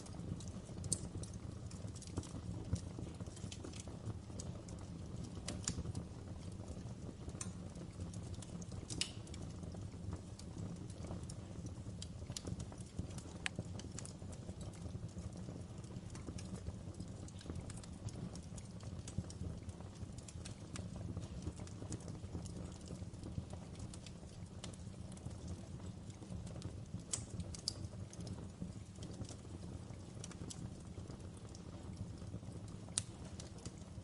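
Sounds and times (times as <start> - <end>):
fire crackling and popping: 0.0 - 34.0
low rumble of burning: 0.0 - 34.0.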